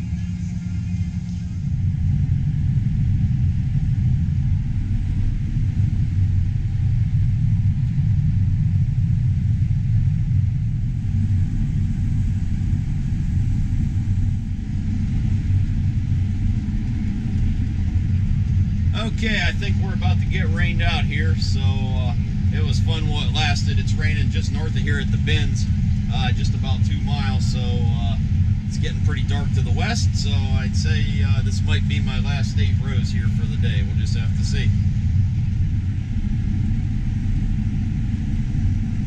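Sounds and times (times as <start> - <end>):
combine harvester rumbling: 0.0 - 39.0.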